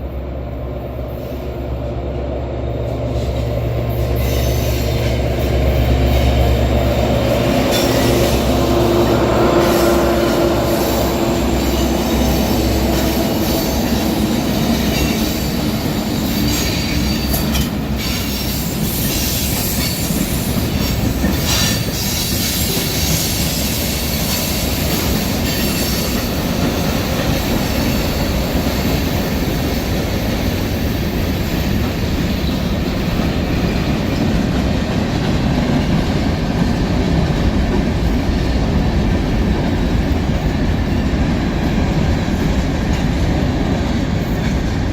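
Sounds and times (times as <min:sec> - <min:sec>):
rumble and rattle of train wheels: 0:00.0 - 0:44.9
squealing train wheels: 0:02.8 - 0:44.9.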